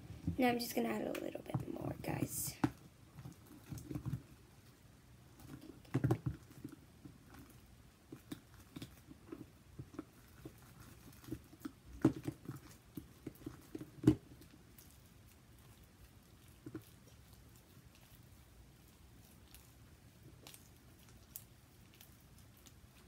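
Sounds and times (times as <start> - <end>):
slime squishing: 0.4 - 23.0.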